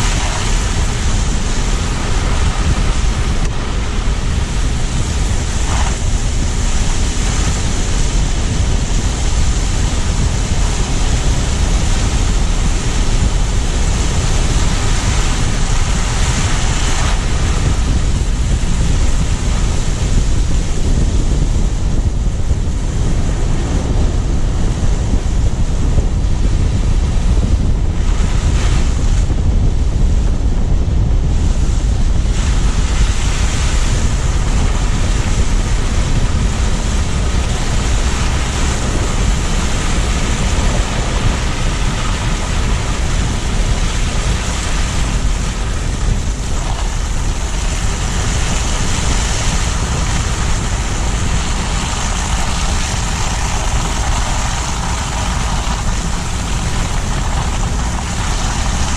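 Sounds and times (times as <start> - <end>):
heavy low rumble: 0.0 - 58.9
tyre and road noise: 0.0 - 58.9
wind buffeting microphone: 0.0 - 58.9.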